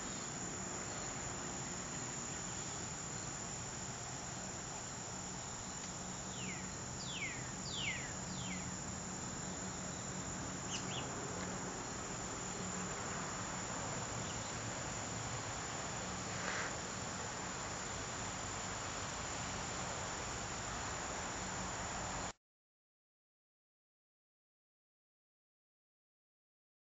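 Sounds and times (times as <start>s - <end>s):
low steady hum: 0.0s - 22.3s
crickets trilling: 0.0s - 22.4s.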